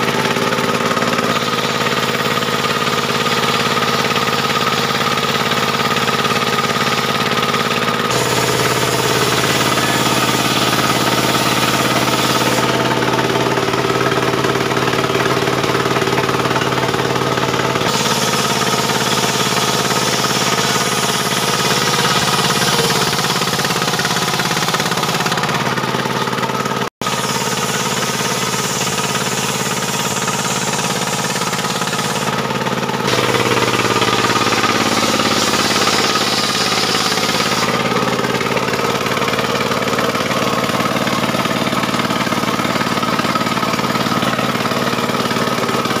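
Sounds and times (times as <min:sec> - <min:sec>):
saw blade hissing through log: 0:00.0 - 0:25.8, 0:27.0 - 0:46.0
sawmill engine running: 0:00.0 - 0:46.0.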